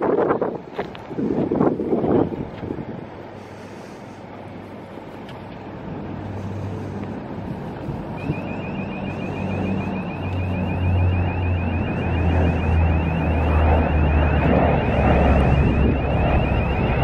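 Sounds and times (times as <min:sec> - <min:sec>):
wind noise on microphone: 0:00.0 - 0:04.2, 0:05.9 - 0:17.0.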